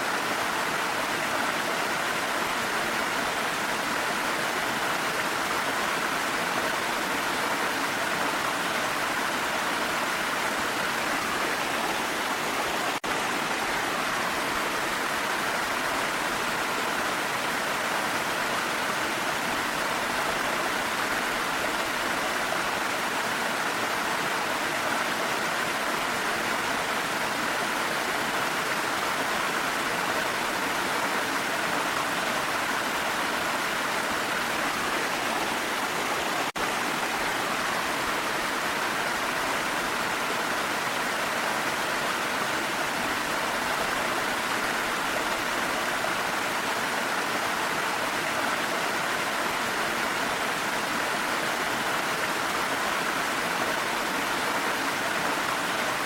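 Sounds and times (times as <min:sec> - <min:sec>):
rain: 0:00.0 - 0:56.0
waterfall rushing: 0:00.0 - 0:56.0.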